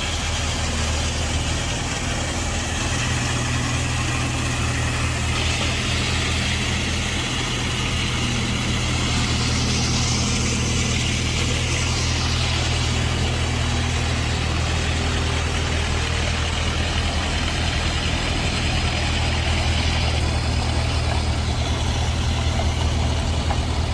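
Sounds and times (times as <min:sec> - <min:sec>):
heavy machine engine idling: 0:00.0 - 0:23.9.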